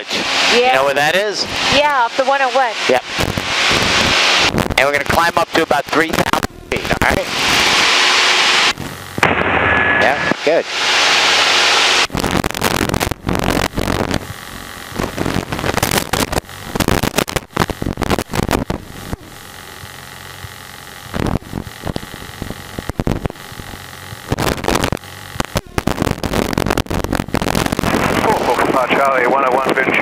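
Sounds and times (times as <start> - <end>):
aircraft engine and wind noise: 0.0 - 19.9, 20.5 - 30.0
intercom hiss and crackles: 0.0 - 19.9, 21.2 - 30.0.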